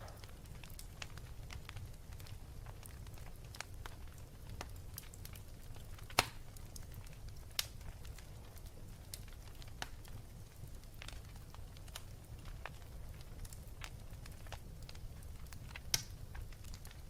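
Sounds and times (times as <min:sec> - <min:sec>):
sharp pops from fire: 0:00.0 - 0:17.0
wood fire crackling: 0:00.0 - 0:17.0.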